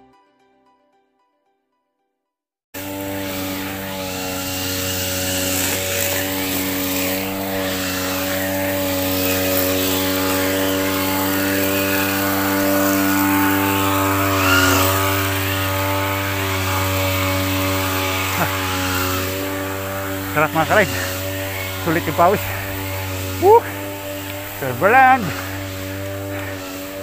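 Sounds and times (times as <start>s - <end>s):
small engine running: 2.8s - 27.0s.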